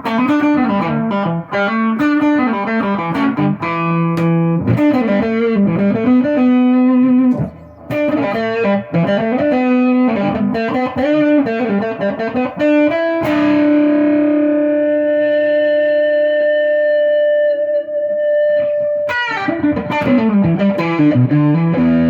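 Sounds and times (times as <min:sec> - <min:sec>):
electric guitar melodic runs: 0:00.0 - 0:22.0.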